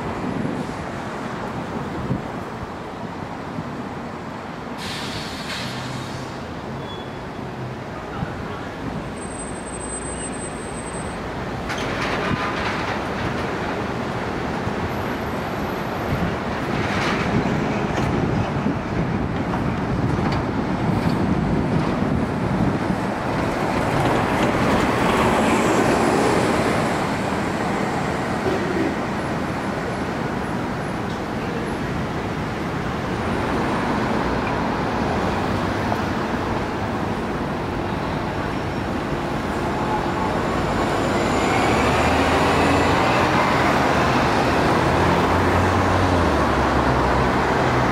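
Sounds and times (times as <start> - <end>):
buses and cars passing: 0.0 - 47.9.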